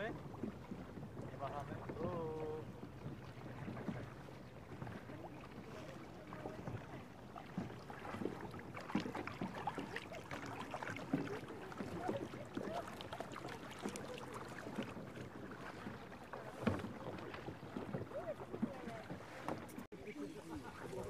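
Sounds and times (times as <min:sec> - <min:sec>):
paddles splashing in water: 0:00.0 - 0:21.0.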